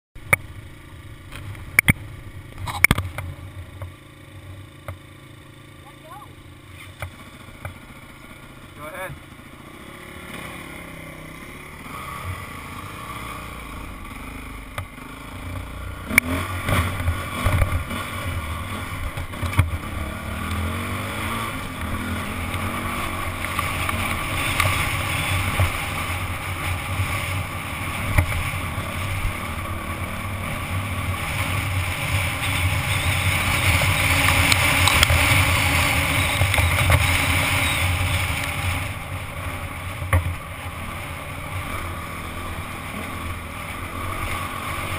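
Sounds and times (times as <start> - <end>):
dirt bike engine: 0.2 - 44.9.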